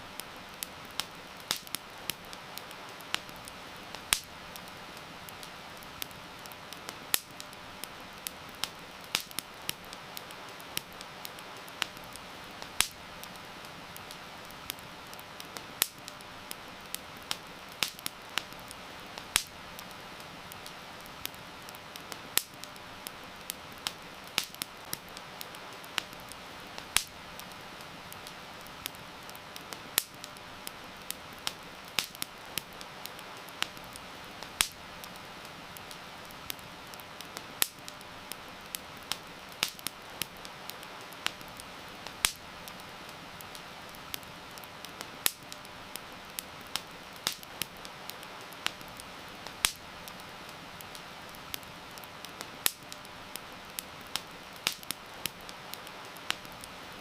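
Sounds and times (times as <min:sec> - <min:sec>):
campfire crackling and popping: 0:00.0 - 0:57.0
heavy rain hiss: 0:00.0 - 0:57.0.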